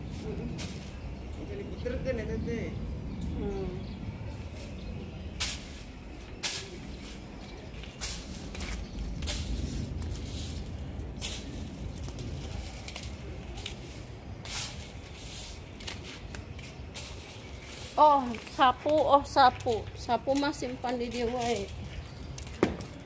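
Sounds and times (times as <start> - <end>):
broom sweeping brick paving: 0.0 - 1.3, 4.3 - 23.0
steady low rumble: 0.0 - 23.0.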